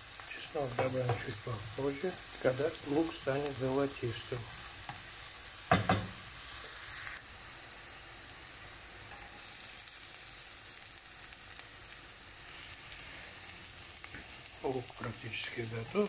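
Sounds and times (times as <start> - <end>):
onion sizzling in a frying pan: 0.0 - 16.0.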